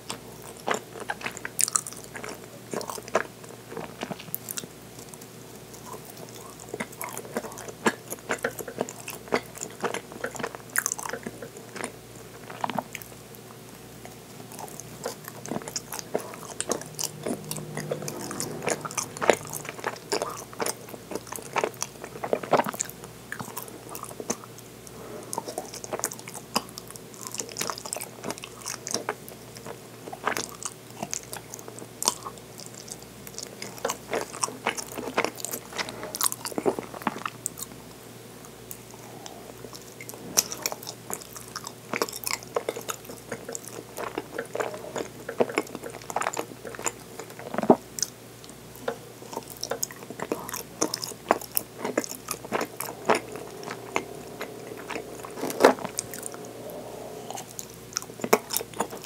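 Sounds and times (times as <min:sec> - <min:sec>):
wet chewing sounds: 0:00.0 - 0:13.2, 0:14.0 - 0:37.8, 0:38.7 - 0:59.0.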